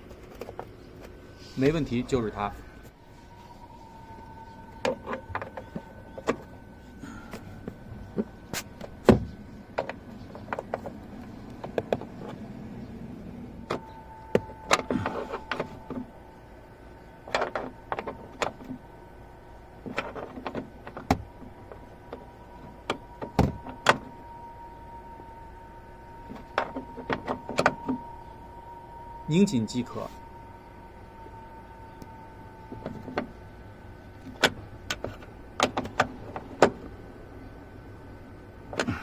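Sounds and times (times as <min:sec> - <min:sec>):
faint steady tone: 0:00.0 - 0:39.0.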